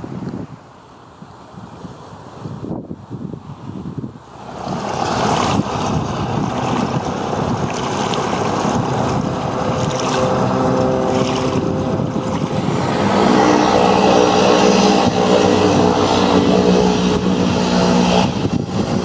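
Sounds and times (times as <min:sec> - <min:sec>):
propeller plane engine running: 0:00.0 - 0:19.0
wind noise on microphone: 0:00.0 - 0:19.0.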